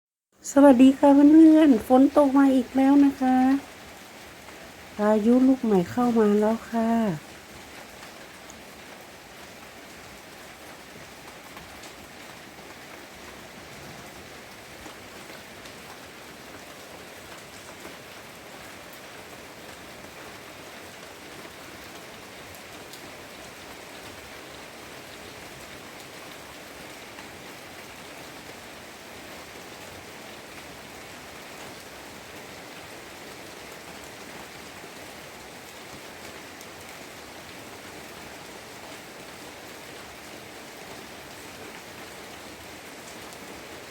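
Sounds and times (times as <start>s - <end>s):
steady rain hiss: 0.4s - 43.9s.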